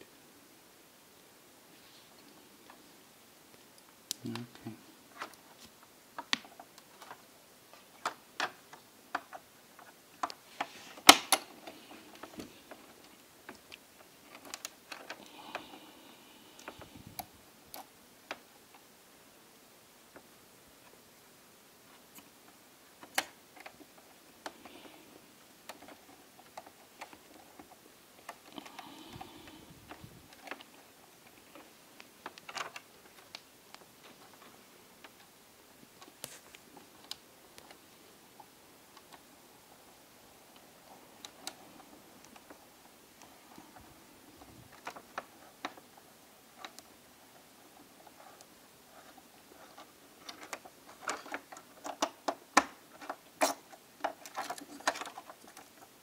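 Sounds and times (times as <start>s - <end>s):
soft rustling: 1.6s - 17.9s, 21.8s - 52.0s.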